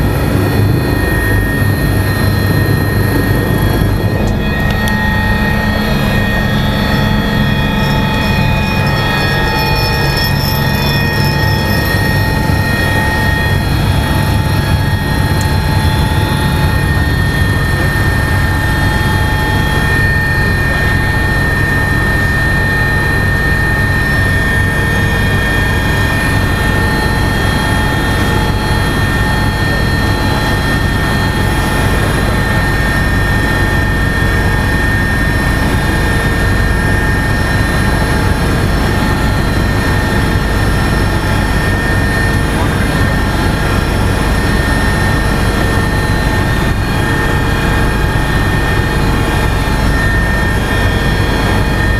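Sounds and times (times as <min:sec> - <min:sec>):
constant high tones: 0:00.0 - 0:51.9
helicopter rotor rumble: 0:00.0 - 0:51.9
helicopter turbine whine: 0:00.0 - 0:51.9.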